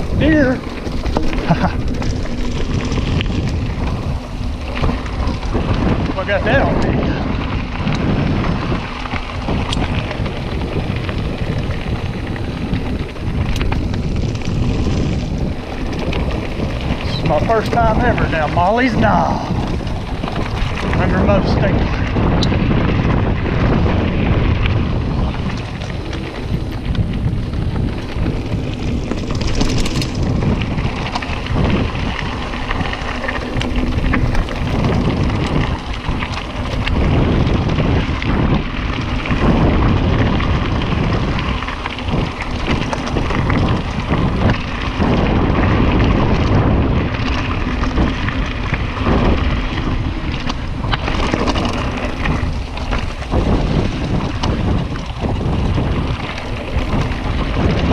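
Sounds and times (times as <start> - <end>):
bike rattling over bumps: 0.0 - 57.9
tyres rumbling on dirt: 0.0 - 57.9
wind noise on microphone: 0.0 - 57.9.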